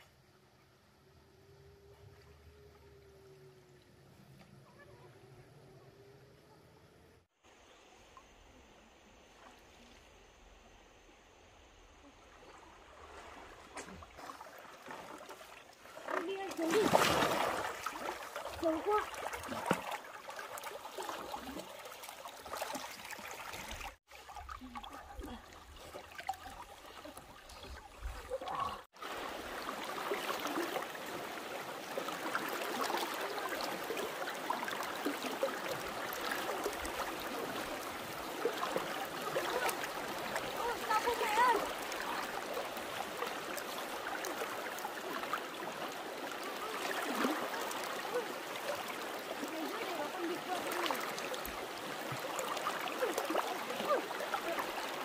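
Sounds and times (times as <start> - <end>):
floodwater rushing and gurgling: 9.2 - 55.0.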